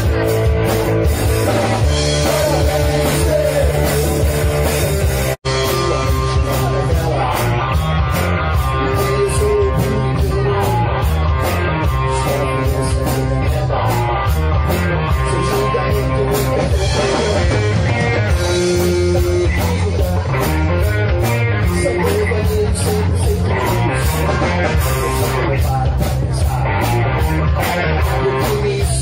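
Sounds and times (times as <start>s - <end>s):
drum kit with cymbal beat: 0.0s - 29.0s
electric bass line: 0.0s - 29.0s
electric guitar: 0.0s - 29.0s.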